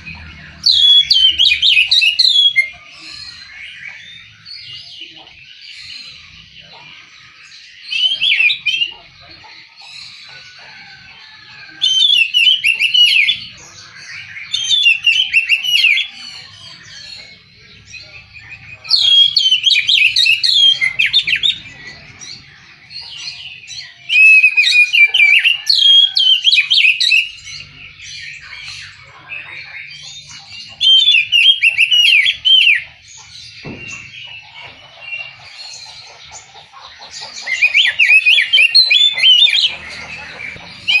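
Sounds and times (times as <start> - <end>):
bird whistled song: 0.0 - 10.6, 11.8 - 22.4, 23.0 - 41.0.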